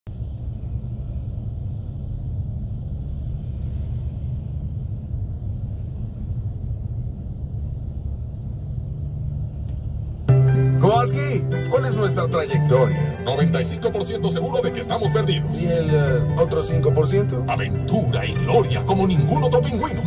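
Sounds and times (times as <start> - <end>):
car engine rumble: 0.1 - 20.0.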